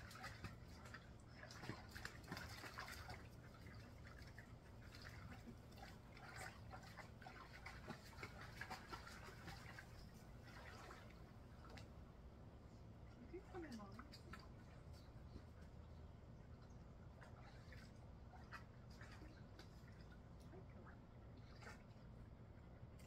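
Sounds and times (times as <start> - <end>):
water splashing and lapping: 0.0 - 23.0.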